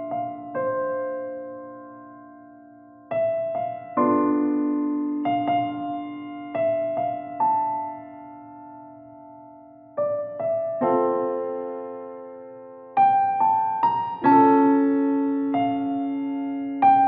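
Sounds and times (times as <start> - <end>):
slow electric piano chords: 0.0 - 17.0.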